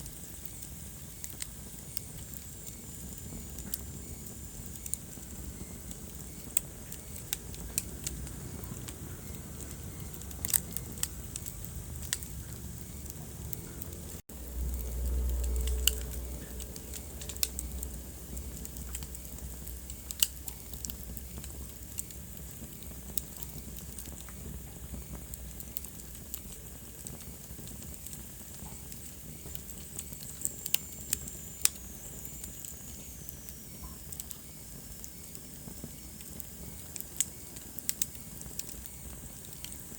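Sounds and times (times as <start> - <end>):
low rumble of flames: 0.0 - 39.9
sharp pops of fire: 0.0 - 39.9
wood fire crackling: 0.0 - 39.9.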